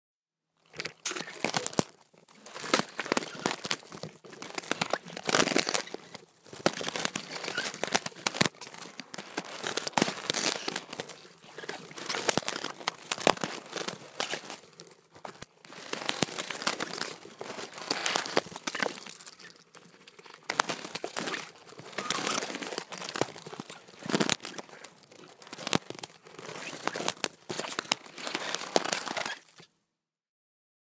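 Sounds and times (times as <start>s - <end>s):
crackling crunching and scraping: 0.6s - 29.7s.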